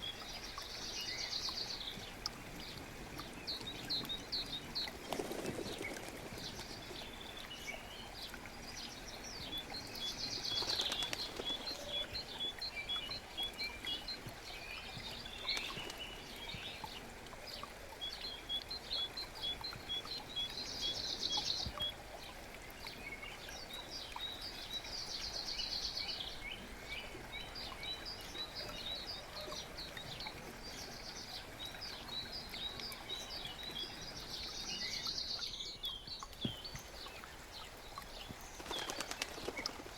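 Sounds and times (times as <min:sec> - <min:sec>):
birds singing: 0:00.0 - 0:39.9
forest brook rushing: 0:00.0 - 0:39.9.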